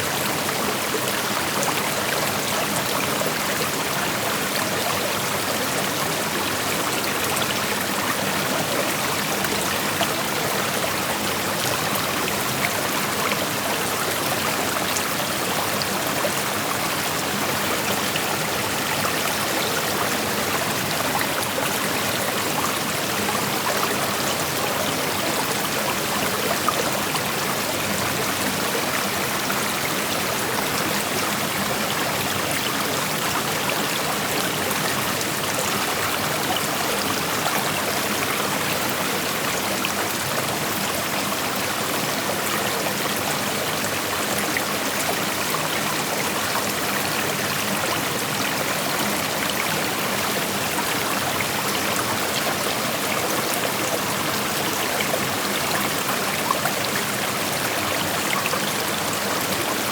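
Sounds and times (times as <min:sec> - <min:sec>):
creek water rushing over stones: 0:00.0 - 0:59.9.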